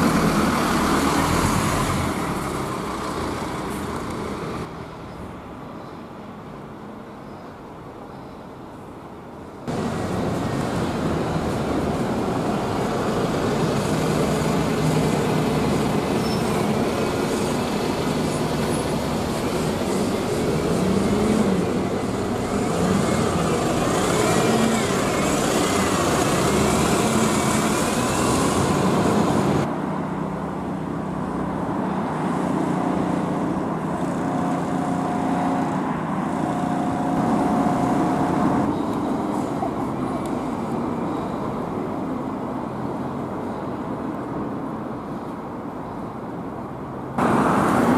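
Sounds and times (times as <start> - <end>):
bus diesel engine running: 0.0 - 5.0, 9.7 - 47.9
town traffic: 0.0 - 47.9.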